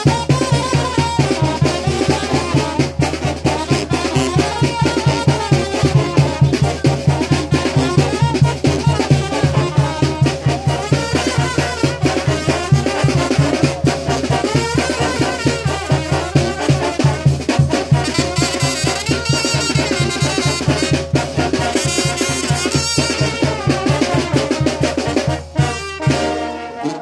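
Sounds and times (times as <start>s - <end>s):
brass band with drums: 0.0s - 27.0s.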